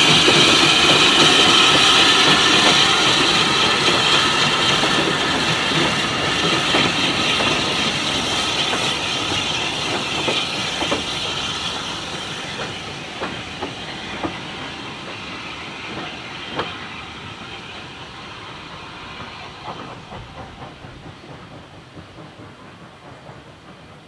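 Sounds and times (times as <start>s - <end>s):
steady steam hiss: 0.0s - 24.0s.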